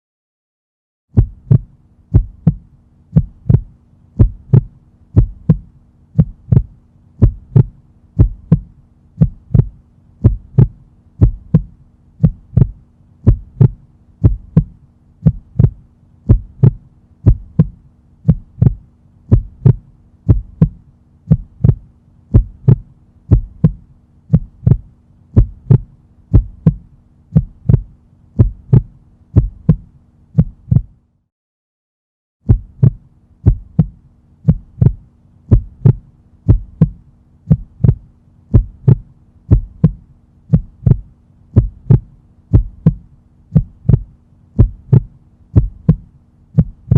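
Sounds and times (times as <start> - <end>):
heartbeat thumps: 1.1 - 31.0, 32.4 - 46.9
faint low hum: 1.2 - 31.2, 32.5 - 46.9.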